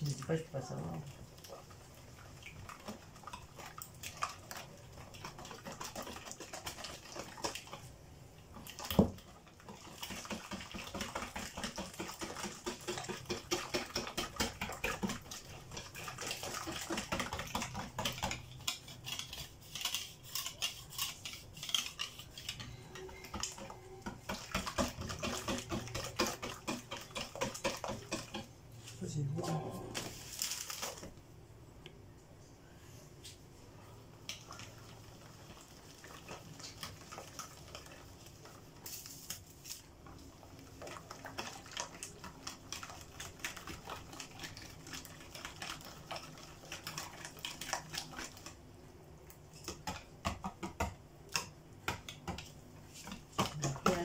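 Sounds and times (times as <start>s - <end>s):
whisk beating batter in bowl: 0.0s - 28.7s, 34.2s - 54.0s.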